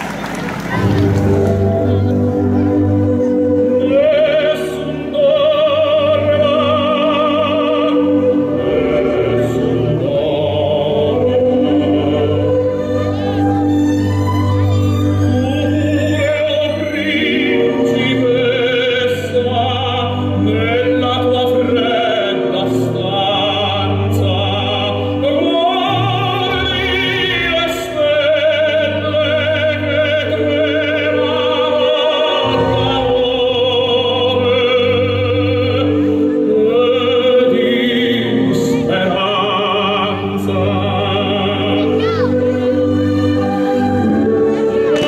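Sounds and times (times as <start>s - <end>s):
orchestral accompaniment: 0.0s - 45.0s
opera singer with vibrato: 0.8s - 14.1s, 15.0s - 45.0s.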